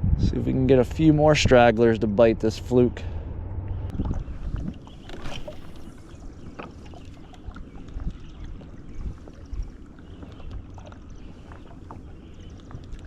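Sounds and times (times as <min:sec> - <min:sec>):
water and wind rumble: 0:00.0 - 0:13.0.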